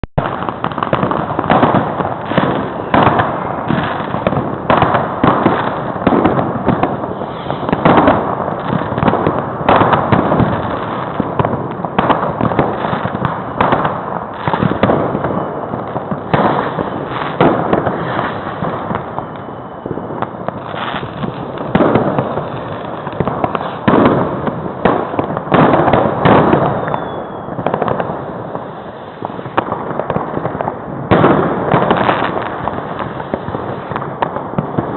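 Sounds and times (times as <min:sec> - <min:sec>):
fireworks and firecrackers banging: 0:00.0 - 0:34.9.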